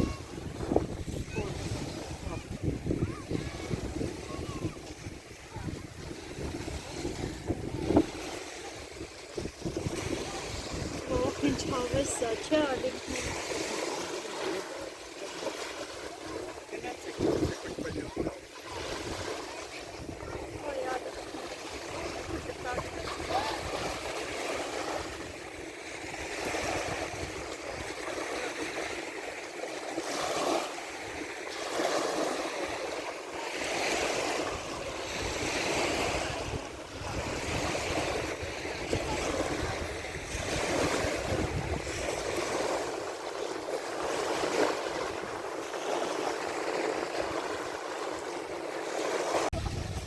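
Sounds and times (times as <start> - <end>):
sea waves breaking on shore: 0.0 - 50.0.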